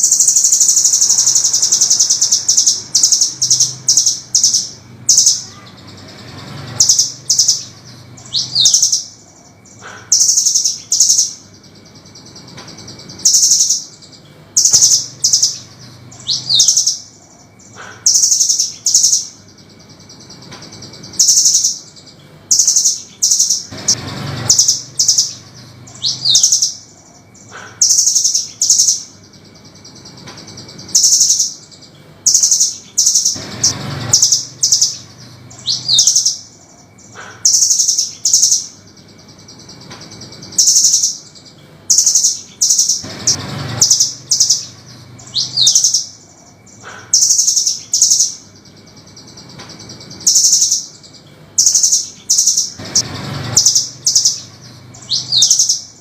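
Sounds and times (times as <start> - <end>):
bird chirping rapidly: 0.0 - 56.0.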